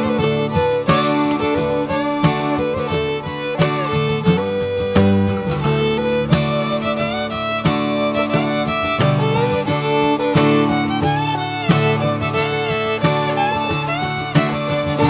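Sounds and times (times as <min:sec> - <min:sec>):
fiddle melody: 0:00.0 - 0:15.0
strummed guitar: 0:00.0 - 0:15.0.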